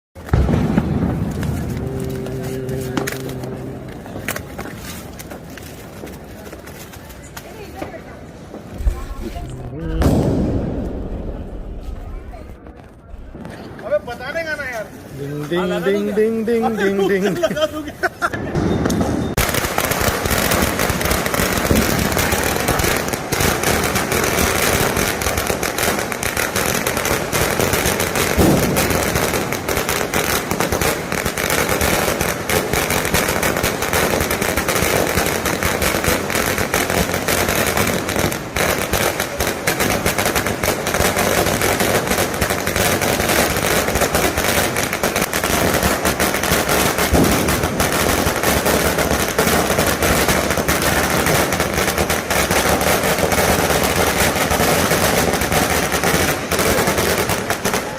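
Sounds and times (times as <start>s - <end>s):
firecracker string crackling: 0.2s - 57.9s.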